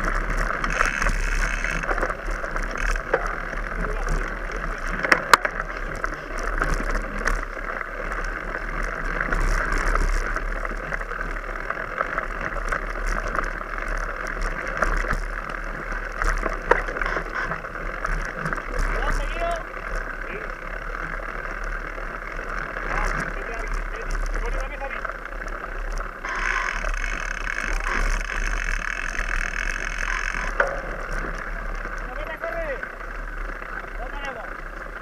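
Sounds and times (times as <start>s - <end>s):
bike clicks and knocks: 0.0s - 35.0s
mountain bike rattling over rough ground: 0.0s - 35.0s.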